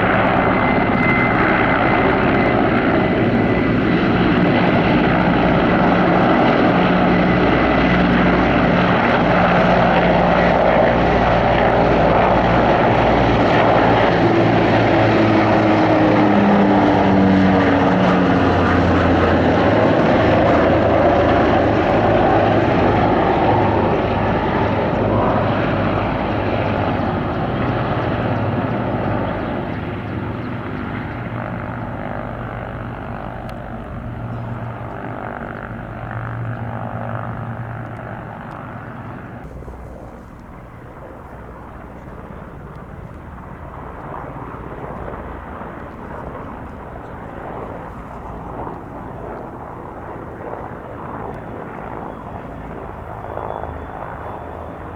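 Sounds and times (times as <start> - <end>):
propeller aircraft flying past: 0.0 - 54.9.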